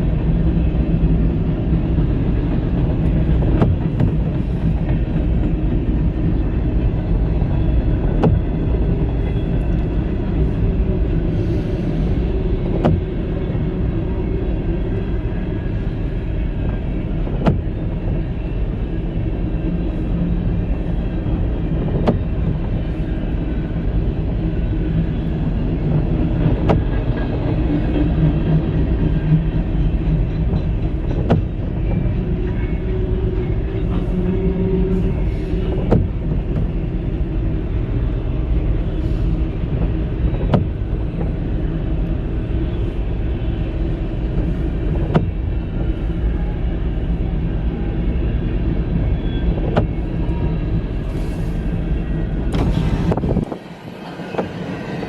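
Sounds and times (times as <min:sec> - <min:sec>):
freight cars rolling on rails: 0:00.0 - 0:55.0.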